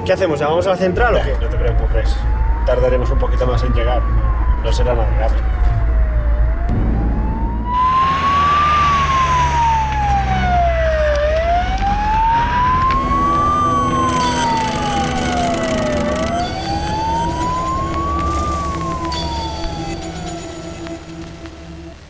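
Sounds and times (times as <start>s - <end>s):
ambulance siren wailing: 0.0s - 22.0s.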